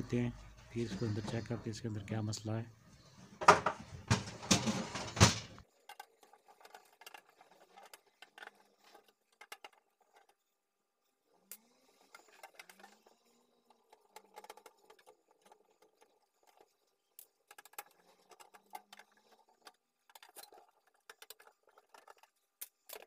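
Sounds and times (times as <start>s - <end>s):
faint clicks and knocks: 3.4s - 23.0s.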